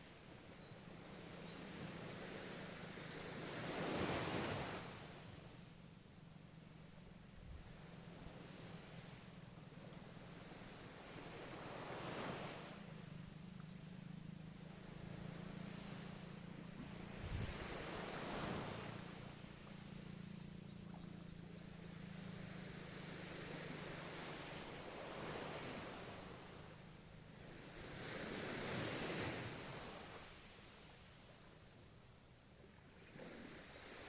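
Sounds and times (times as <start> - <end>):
ocean waves breaking: 0.0 - 5.7, 6.6 - 21.0, 21.6 - 31.6, 32.6 - 34.0.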